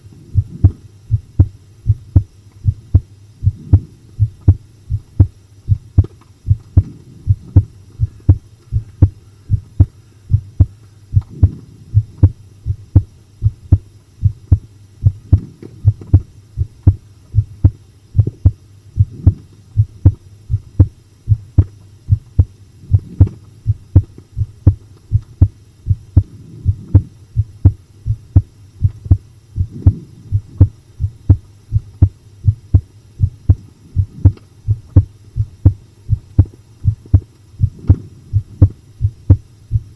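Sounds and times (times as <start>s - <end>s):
faint low hum: 0.0s - 39.9s
heartbeat thumps: 0.0s - 39.9s.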